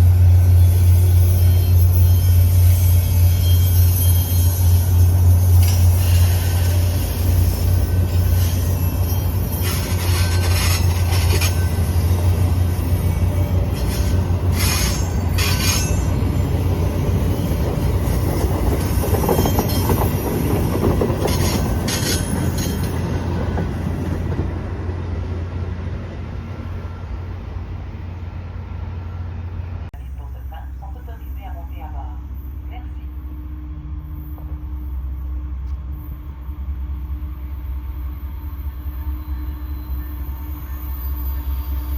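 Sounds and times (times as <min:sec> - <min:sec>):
train wheels squealing: 0:00.0 - 0:24.6, 0:32.3 - 0:41.9
train rumbling past: 0:00.0 - 0:41.9.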